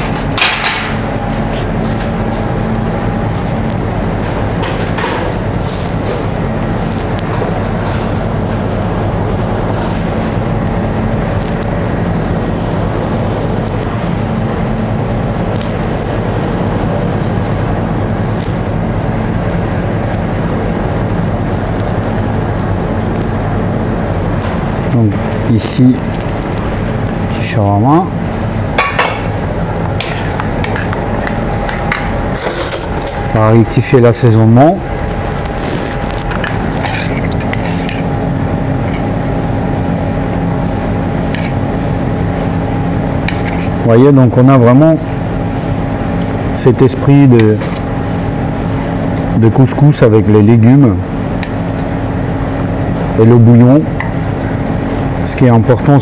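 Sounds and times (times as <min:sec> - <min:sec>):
kitchen ventilation hum: 0:00.0 - 0:56.0.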